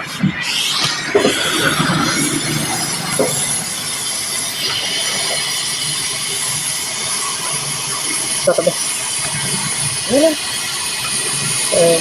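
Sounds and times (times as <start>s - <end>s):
pressurised gas hissing: 0.0s - 12.0s.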